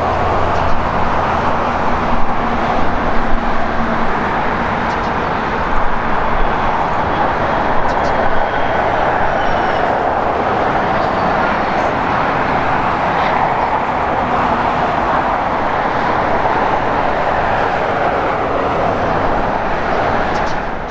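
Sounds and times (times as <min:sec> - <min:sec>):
jet engines climbing: 0:00.0 - 0:20.9.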